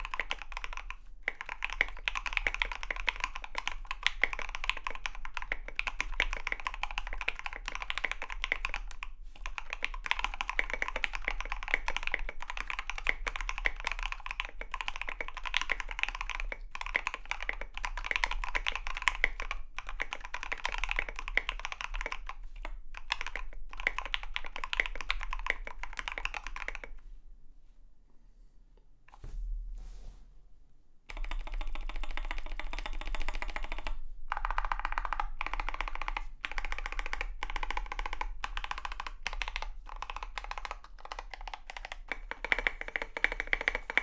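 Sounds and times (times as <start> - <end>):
typing on mechanical keyboard: 0.0 - 26.9, 31.2 - 44.0.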